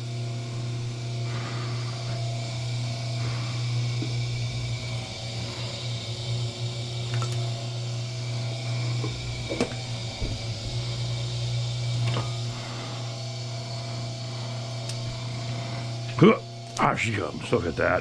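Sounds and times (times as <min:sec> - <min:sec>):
wire stripping machine humming: 0:00.0 - 0:18.0.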